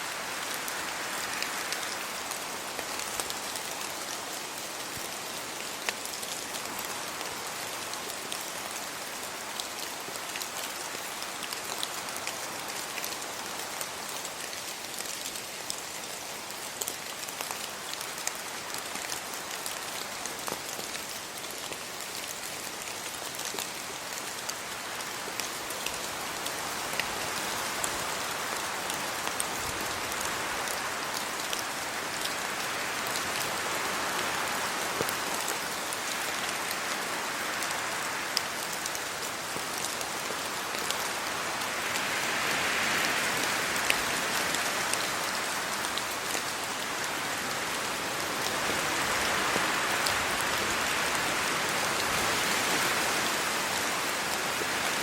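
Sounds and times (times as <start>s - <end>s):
rain falling on trees and road: 0.0s - 55.0s.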